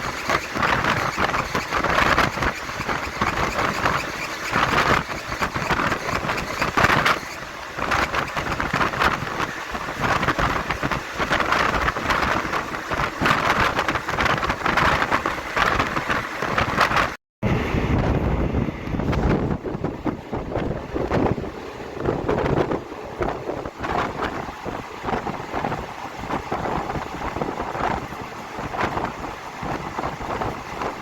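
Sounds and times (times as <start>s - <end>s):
train wheels rushing on rails: 0.0s - 31.0s
wind on microphone: 0.0s - 31.0s.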